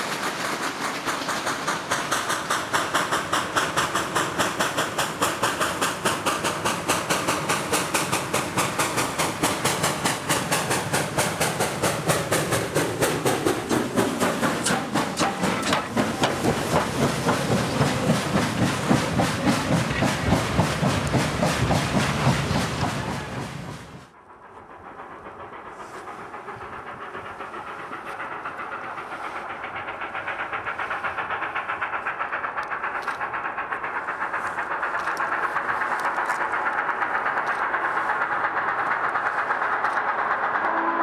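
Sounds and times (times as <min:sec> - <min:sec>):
steam hissing: 0:00.0 - 0:41.0
steam locomotive exhaust beats: 0:00.0 - 0:41.0.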